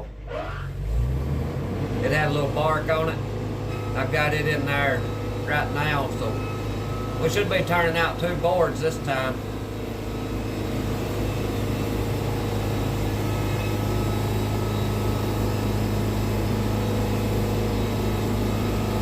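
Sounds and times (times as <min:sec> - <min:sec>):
sawmill engine drone: 0:00.0 - 0:19.0.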